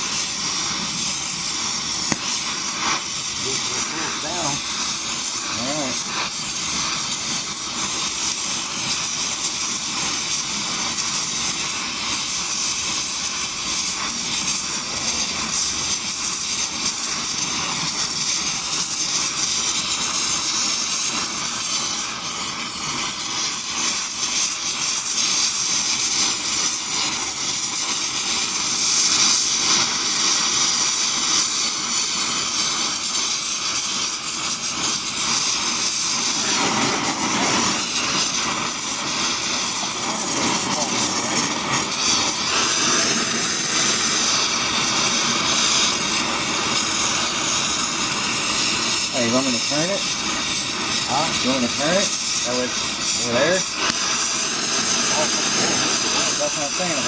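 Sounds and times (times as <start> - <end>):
blowtorch flame hissing: 0.0 - 57.0.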